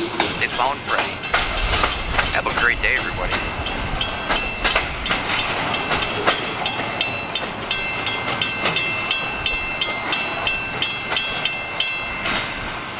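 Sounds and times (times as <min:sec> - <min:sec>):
crossing bell ringing: 0:00.0 - 0:12.9
freight train rumbling: 0:00.0 - 0:12.9.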